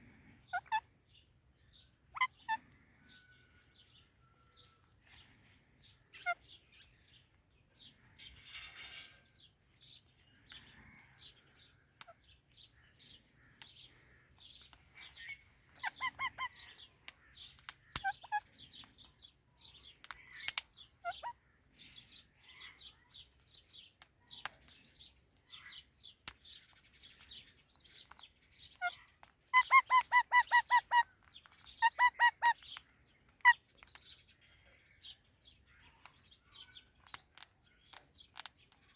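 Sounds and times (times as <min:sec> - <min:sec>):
parrots chirping softly: 0:00.0 - 0:38.9.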